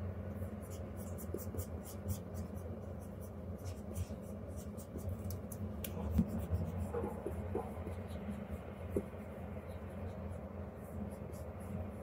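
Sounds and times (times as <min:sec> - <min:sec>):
low steady hum: 0:00.0 - 0:12.0
stylus tapping and scratching screen: 0:00.6 - 0:12.0.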